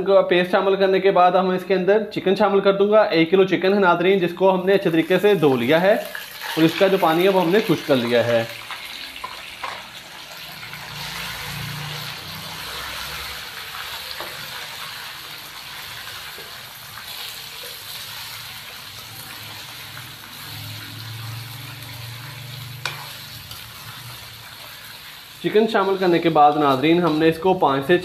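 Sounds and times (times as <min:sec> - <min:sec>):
chicken sizzling in hot oil: 0:04.7 - 0:28.0.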